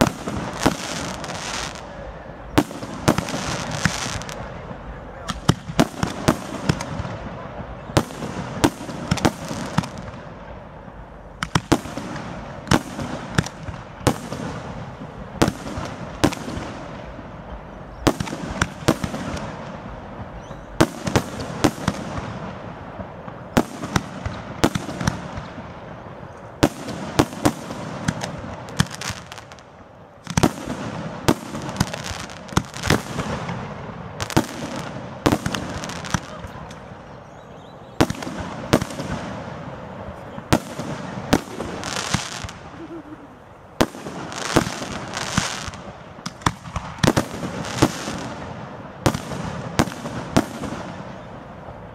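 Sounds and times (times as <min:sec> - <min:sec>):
fireworks bursting: 0:00.0 - 0:51.9
steady background noise: 0:00.0 - 0:51.9.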